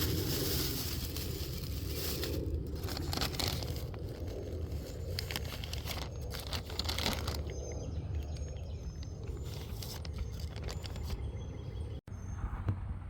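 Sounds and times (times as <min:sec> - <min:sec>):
crackly rustling: 0:00.0 - 0:11.4
wind rumble on microphone: 0:00.0 - 0:13.0.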